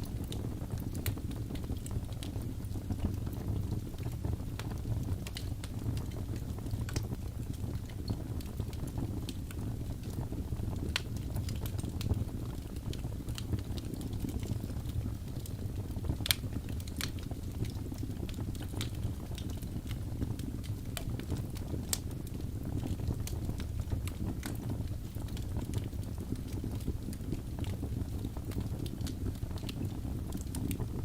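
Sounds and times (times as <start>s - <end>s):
fire crackling and popping: 0.0s - 31.0s
fire rumbling: 0.0s - 31.0s.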